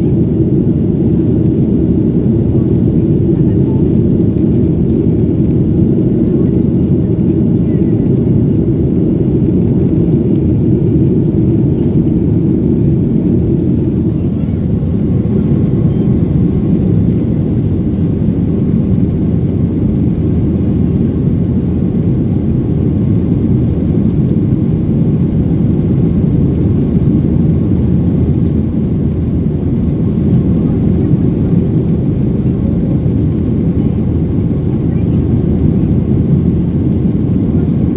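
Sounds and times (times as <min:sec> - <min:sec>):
air rushing along fuselage: 0:00.0 - 0:37.9
jet engines rumbling: 0:00.0 - 0:37.9.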